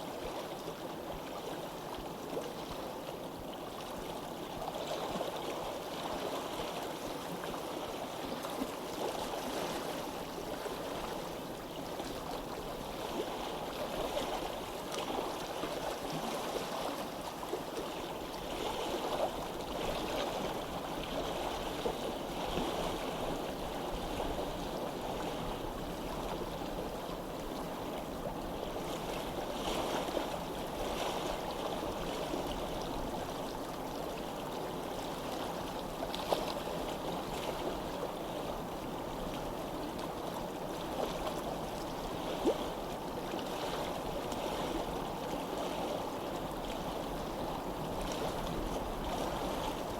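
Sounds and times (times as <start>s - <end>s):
stream water flowing: 0.0s - 49.9s.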